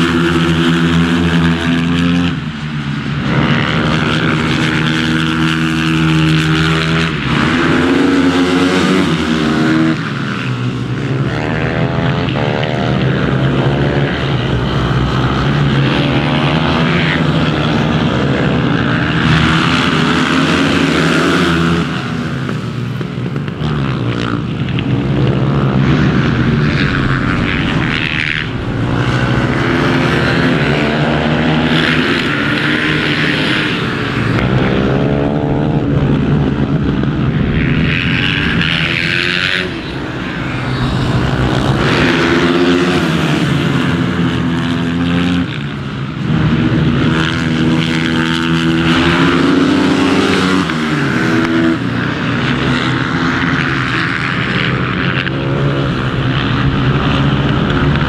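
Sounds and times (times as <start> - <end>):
race motorcycles revving past: 0.0 - 58.0.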